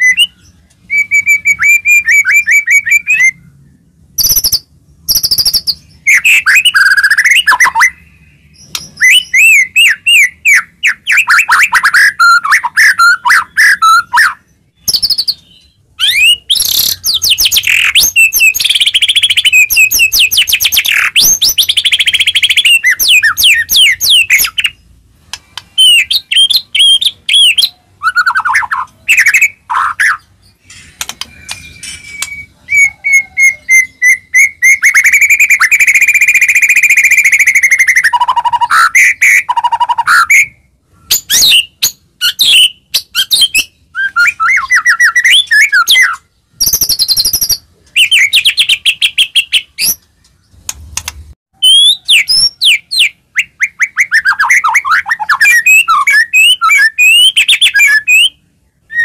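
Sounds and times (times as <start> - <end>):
songbird singing whistles and trills: 0.0 - 24.9, 25.6 - 50.6, 51.6 - 59.0.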